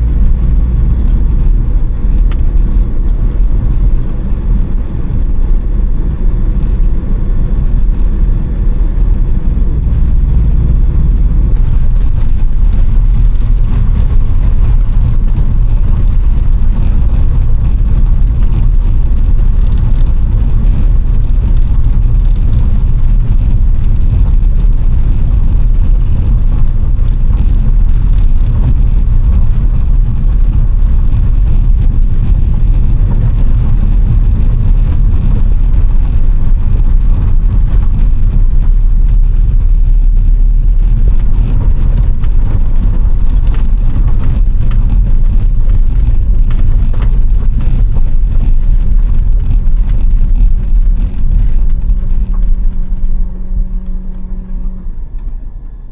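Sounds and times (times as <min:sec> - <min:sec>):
vehicle engine and road rumble: 0:00.0 - 0:55.9.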